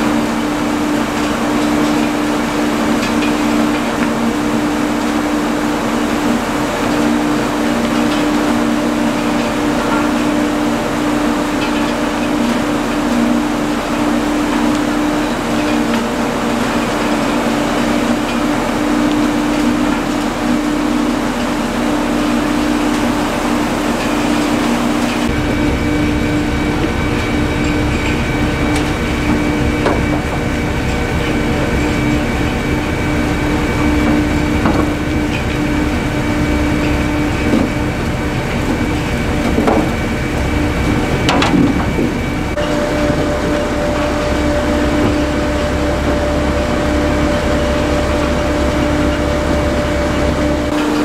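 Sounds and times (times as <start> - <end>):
conveyors carrying soil and potatoes: 0.0 - 51.0
tractor machine hum: 0.0 - 51.0.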